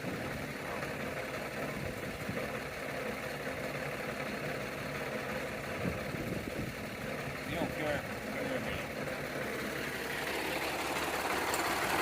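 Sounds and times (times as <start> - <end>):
farm machinery engine idling: 0.0 - 12.0.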